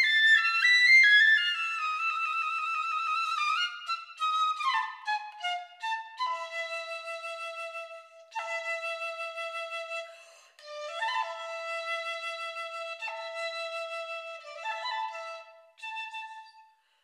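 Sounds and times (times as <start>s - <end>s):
solo piccolo playing: 0.0s - 16.8s.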